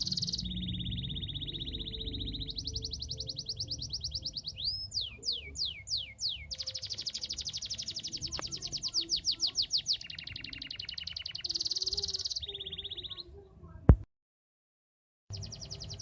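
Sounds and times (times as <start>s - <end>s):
canary singing trills: 0.0s - 13.5s, 15.3s - 16.0s.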